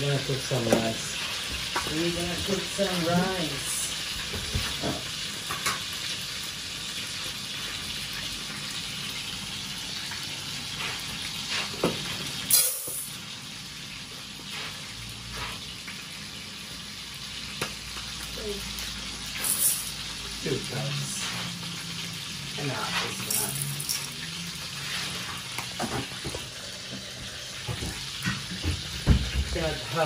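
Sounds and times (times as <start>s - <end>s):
fish sizzling in a pan: 0.0s - 30.0s.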